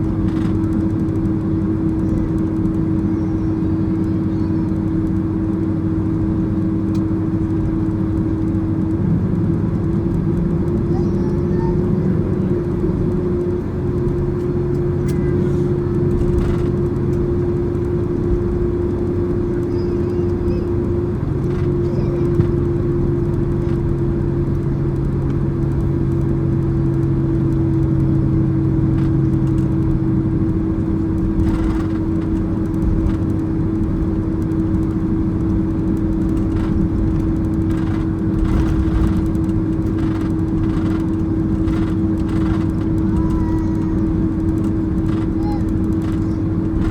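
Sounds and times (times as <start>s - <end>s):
jet engines idling hum: 0.0s - 46.9s
low engine drone: 0.0s - 46.9s.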